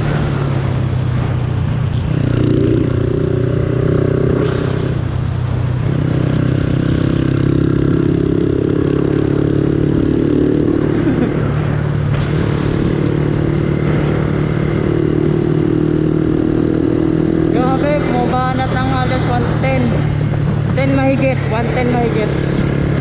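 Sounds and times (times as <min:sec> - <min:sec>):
motorcycle engine at high speed: 0:00.0 - 0:23.0.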